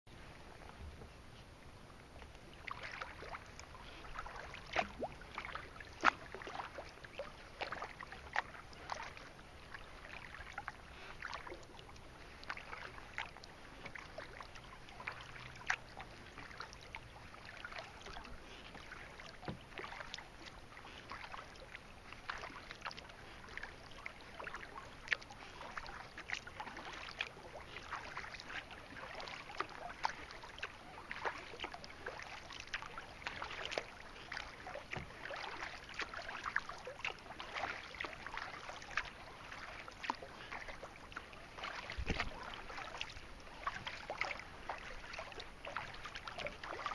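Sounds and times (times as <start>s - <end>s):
small waves splashing against a hull: 0.1s - 46.9s.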